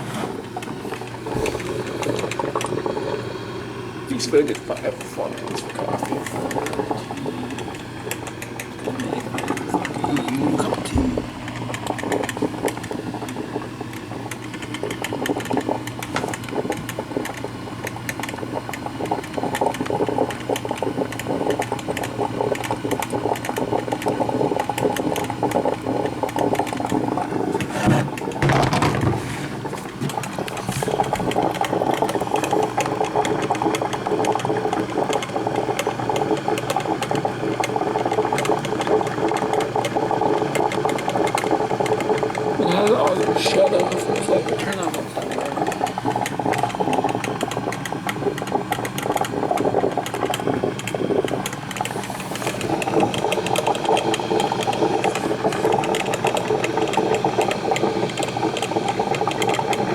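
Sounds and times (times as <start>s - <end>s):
coffee maker brewing: 0.0s - 59.9s.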